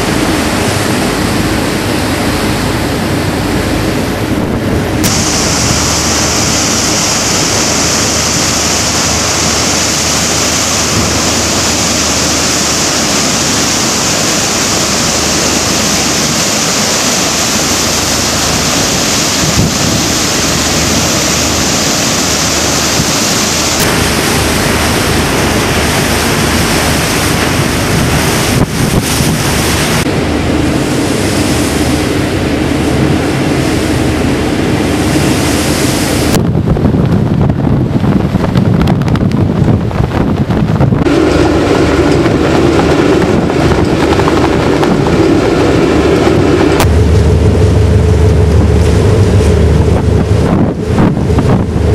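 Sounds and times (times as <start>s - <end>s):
bow wave breaking along hull: 0.0s - 51.9s
choppy sea rushing: 0.0s - 51.9s
wind buffeting microphone: 0.0s - 51.9s.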